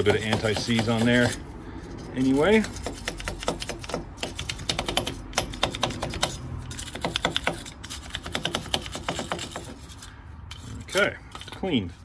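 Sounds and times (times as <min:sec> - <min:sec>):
wire brush scrubbing metal: 0:00.0 - 0:11.8.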